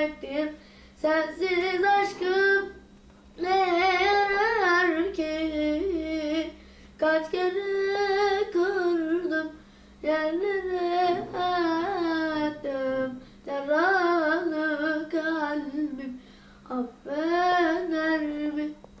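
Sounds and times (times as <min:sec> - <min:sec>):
person singing unaccompanied: 0:00.0 - 0:02.8, 0:03.4 - 0:18.9.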